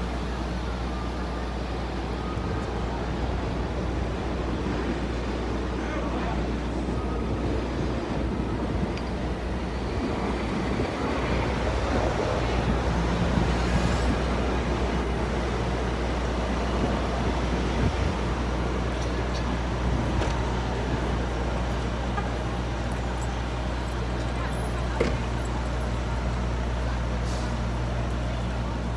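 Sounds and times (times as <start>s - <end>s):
bus engine idling: 0.0s - 28.9s.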